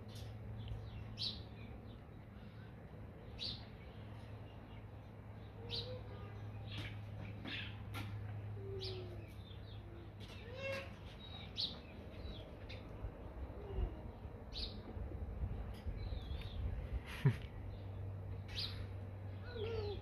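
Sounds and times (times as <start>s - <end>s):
birds chirping: 0.0s - 14.9s, 15.6s - 20.0s
steady low hum: 0.0s - 20.0s.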